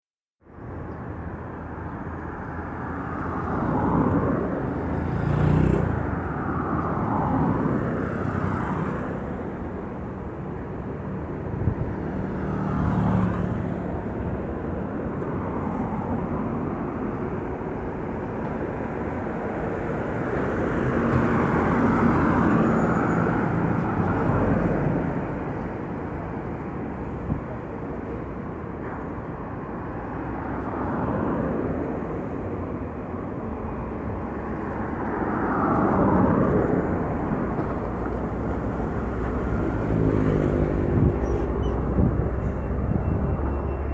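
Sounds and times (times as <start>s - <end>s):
traffic rumble: 0.4s - 43.9s.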